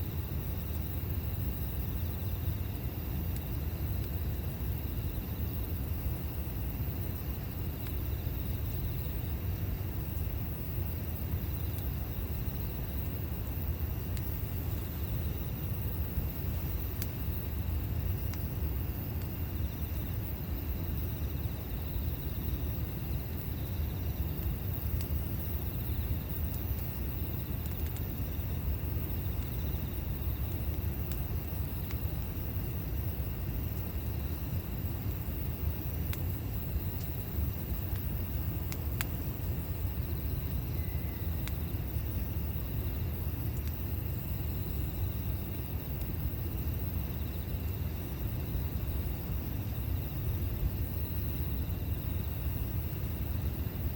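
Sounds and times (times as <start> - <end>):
campfire rumbling: 0.0 - 53.9
fire popping: 0.1 - 53.9.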